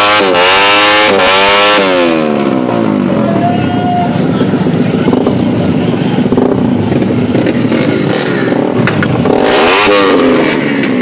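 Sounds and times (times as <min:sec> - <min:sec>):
motorcycle passing close: 0:00.0 - 0:11.0
racing motorcycle engines: 0:00.0 - 0:11.0.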